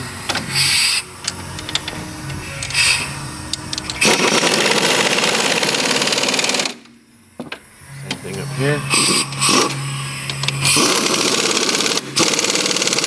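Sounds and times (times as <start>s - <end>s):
power wrench rattling: 0.0s - 13.0s
tool clicks: 0.3s - 8.3s, 8.9s - 13.0s.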